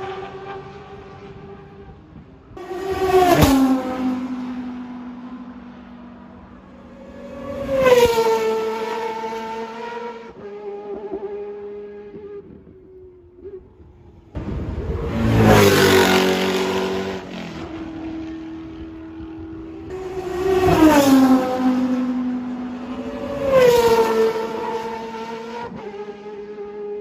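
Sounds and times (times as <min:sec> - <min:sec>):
rotary race car engine at high revs: 0:00.0 - 0:27.0.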